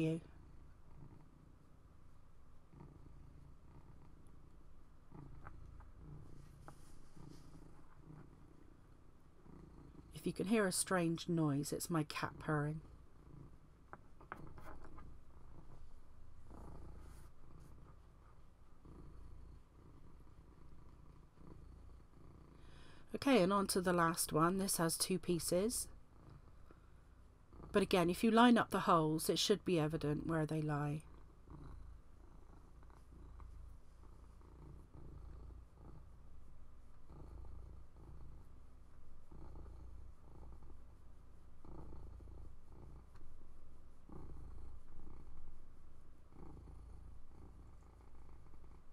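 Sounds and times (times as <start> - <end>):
cat purring: 0.0 - 48.9.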